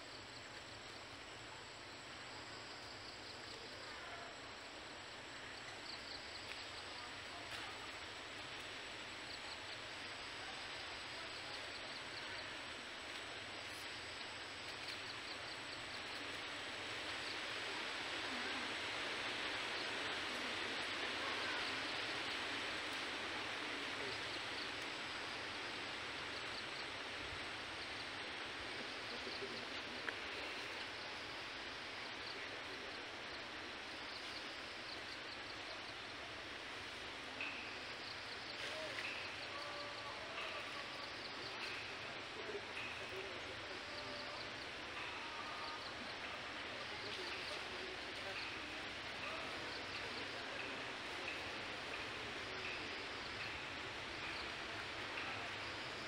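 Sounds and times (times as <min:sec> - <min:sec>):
outdoor background hiss: 0:00.0 - 0:56.0.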